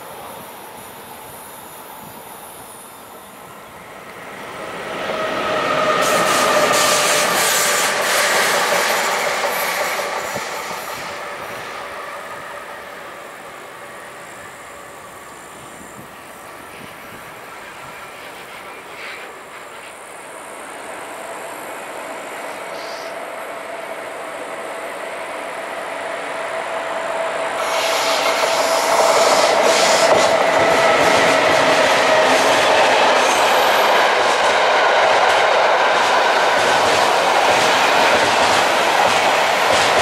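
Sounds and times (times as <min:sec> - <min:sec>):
electric locomotives whining: 0:00.0 - 0:40.0
rail noise: 0:00.0 - 0:40.0.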